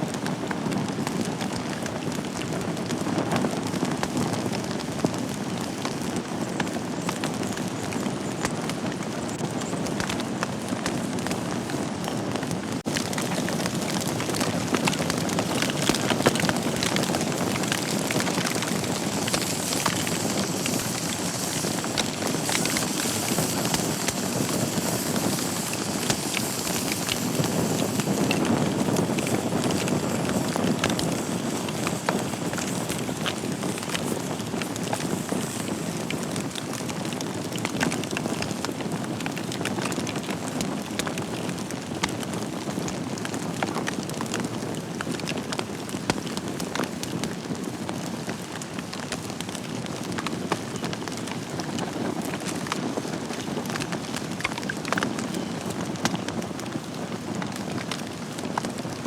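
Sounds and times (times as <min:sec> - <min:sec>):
wood fire crackling and popping: 0:00.0 - 0:59.0
fire hissing: 0:00.2 - 0:59.0.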